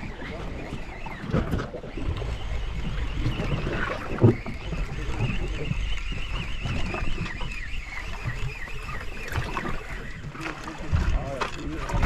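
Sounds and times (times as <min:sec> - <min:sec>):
boat engine rumble: 0:00.0 - 0:12.0
thin high wavering whine: 0:00.0 - 0:12.0
water noise: 0:00.0 - 0:12.0.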